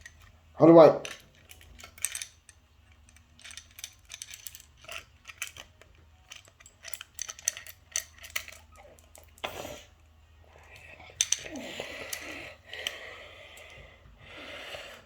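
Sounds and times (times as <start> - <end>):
metal keys clinking and rattling: 0.0 - 13.8.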